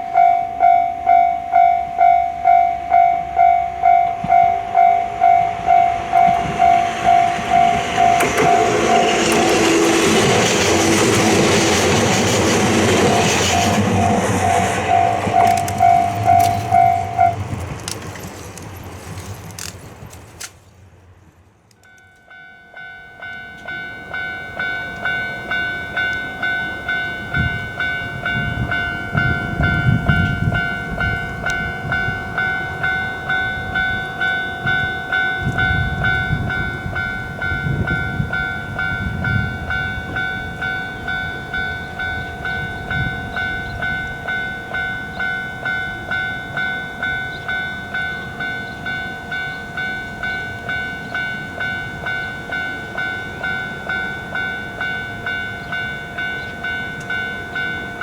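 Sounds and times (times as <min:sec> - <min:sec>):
crossing warning signal pulsing: 0:00.0 - 0:18.6, 0:21.8 - 0:58.0
crossing warning bell ringing: 0:00.0 - 0:19.7, 0:21.8 - 0:58.0
train passing: 0:00.0 - 0:58.0.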